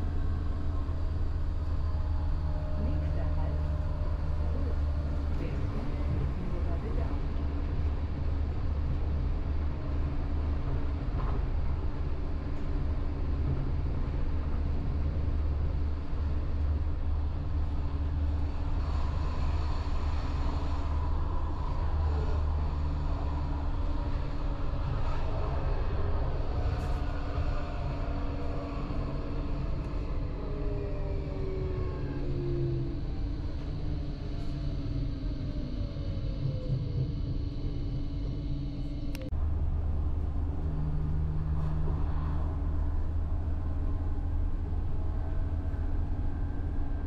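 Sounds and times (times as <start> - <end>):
faint steady hum: 0.0 - 47.0
train rumbling: 0.0 - 47.0.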